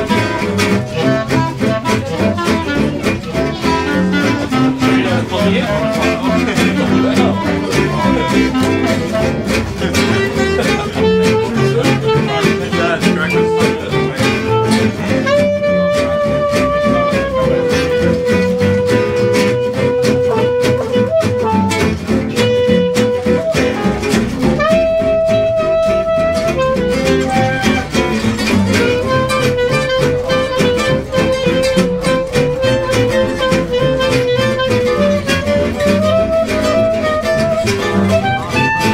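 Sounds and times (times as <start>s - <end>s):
double bass: 0.0s - 38.9s
lead melody line: 0.0s - 38.9s
strummed guitars: 0.0s - 38.9s.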